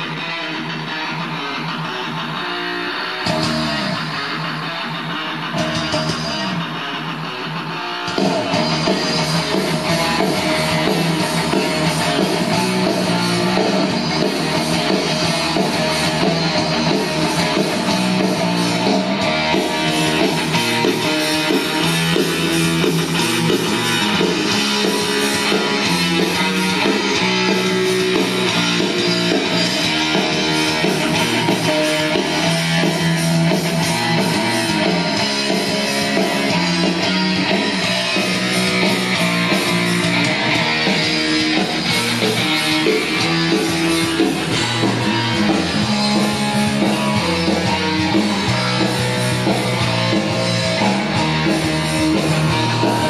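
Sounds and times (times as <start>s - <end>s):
guitar music from cassette: 0.0s - 53.0s.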